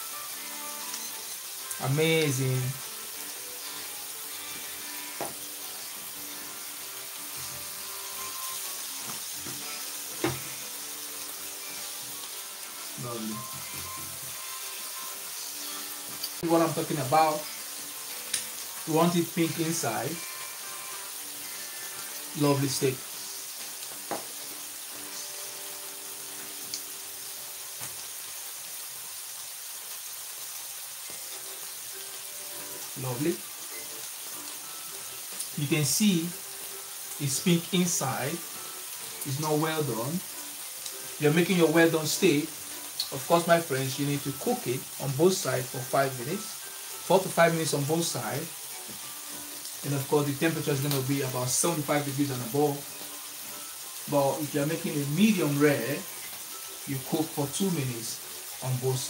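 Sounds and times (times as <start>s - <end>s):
steaks sizzling in grill pan: 0.0s - 59.0s.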